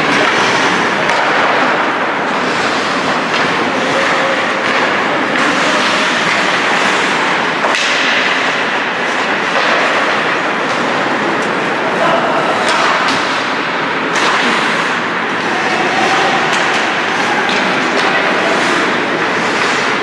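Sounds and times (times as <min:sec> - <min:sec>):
ice hockey arena din: 0:00.0 - 0:20.0.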